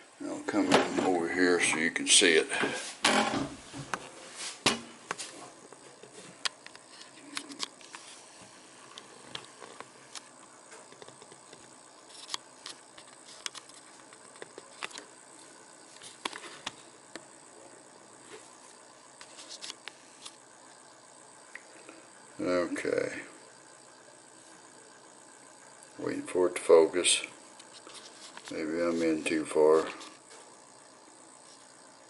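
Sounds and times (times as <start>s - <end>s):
faint room hiss: 0.0s - 32.0s.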